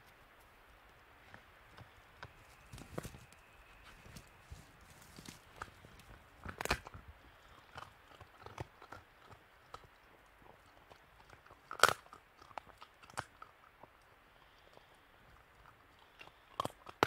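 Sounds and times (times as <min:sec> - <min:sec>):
jaws crunching on bone: 0:01.7 - 0:17.0.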